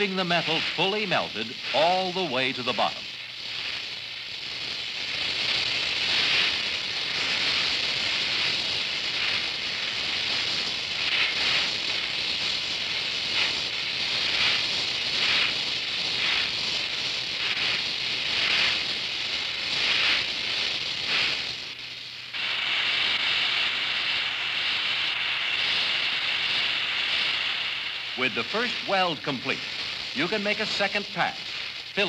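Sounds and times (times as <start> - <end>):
crackle of melting rod: 0.0 - 32.0
welding torch flame hissing: 0.0 - 32.0.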